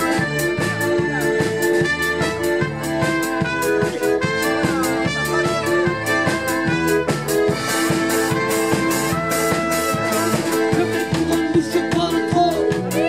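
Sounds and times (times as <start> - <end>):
trumpet: 0.0 - 12.1
button accordion: 0.0 - 13.0
drum kit steady beat: 0.0 - 13.0.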